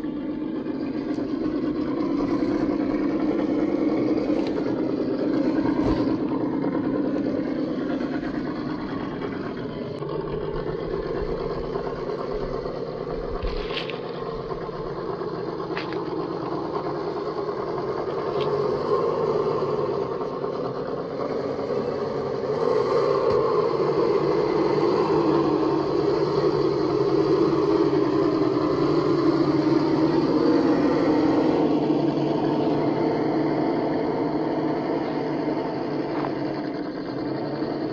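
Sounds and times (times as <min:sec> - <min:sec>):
electric motor and gearbox whining: 0:00.0 - 0:37.9
tyres on gravel: 0:00.1 - 0:37.9.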